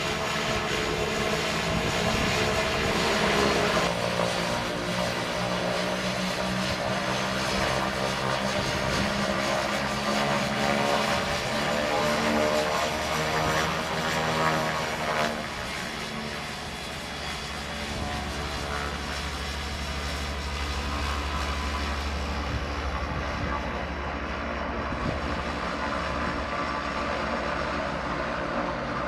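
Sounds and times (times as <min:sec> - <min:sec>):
turboprop engines running: 0:00.0 - 0:29.0.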